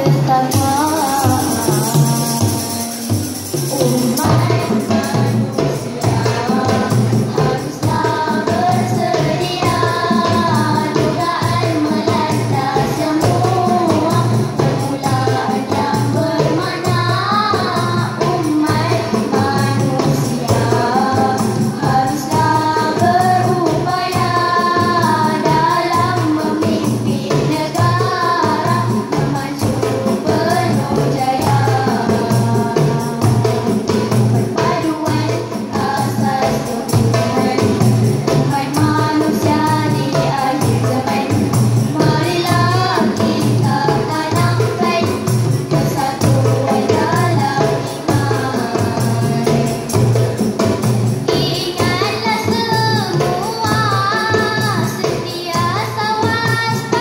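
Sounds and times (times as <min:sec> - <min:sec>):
djembe hand drums: 0:00.0 - 0:57.0
girls singing into microphones: 0:00.0 - 0:57.0.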